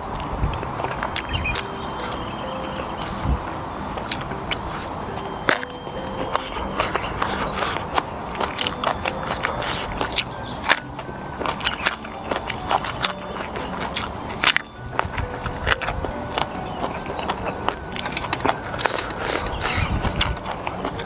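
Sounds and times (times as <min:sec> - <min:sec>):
crunchy biting and chewing: 0:00.0 - 0:21.0.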